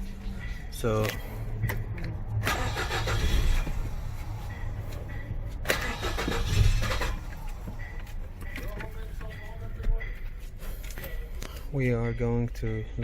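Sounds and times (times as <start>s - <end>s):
car engine running: 0.0s - 11.1s.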